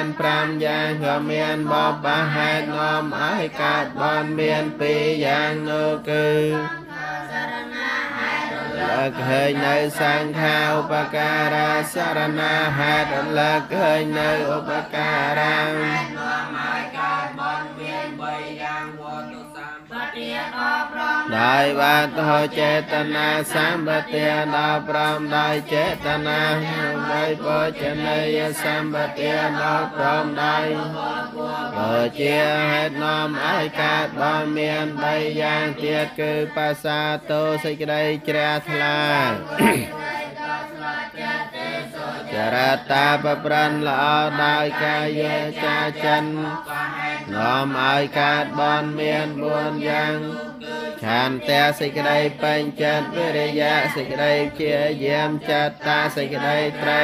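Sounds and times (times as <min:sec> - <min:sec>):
voices chanting: 0:00.0 - 0:57.0.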